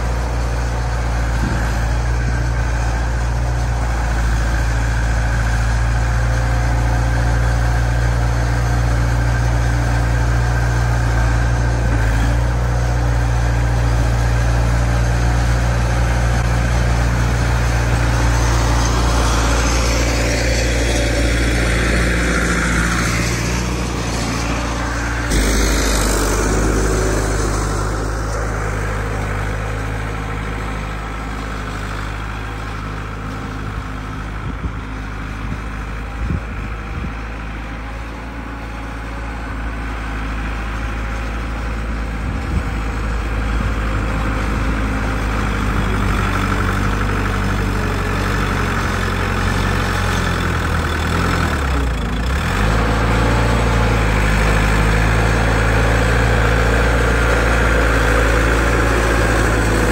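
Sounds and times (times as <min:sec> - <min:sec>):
skid-steer loader engine running: 0:00.0 - 0:59.9.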